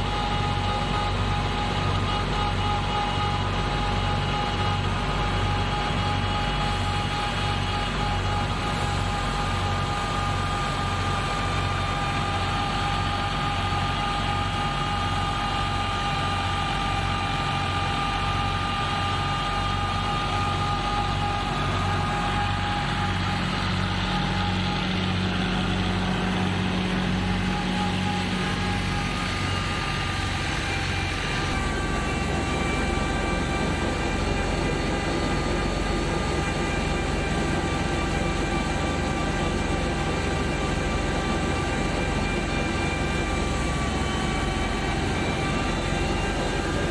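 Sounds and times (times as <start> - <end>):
thresher mechanical whine: 0.0 - 46.9
tractor diesel engine running: 0.0 - 46.9.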